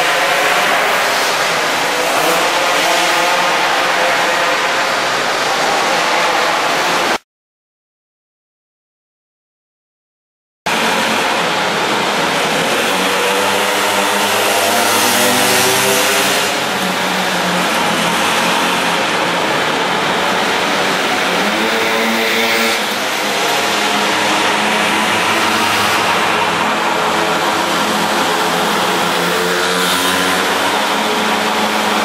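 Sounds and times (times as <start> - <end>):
minibike engines revving: 0.0 - 7.2, 10.7 - 32.0.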